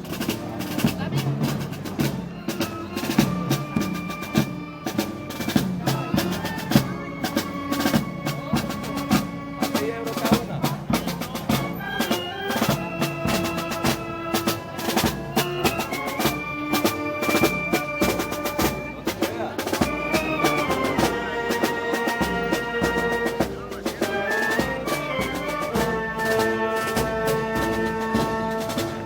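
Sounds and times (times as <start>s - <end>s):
brass band chords: 0.0s - 29.0s
snare and bass drum strokes: 0.0s - 29.0s.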